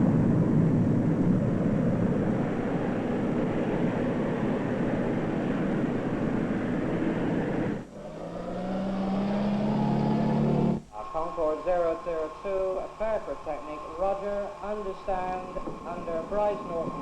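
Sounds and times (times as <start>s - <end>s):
jet engines at full power: 0.0s - 17.0s
steady hum with held tones: 0.0s - 17.0s.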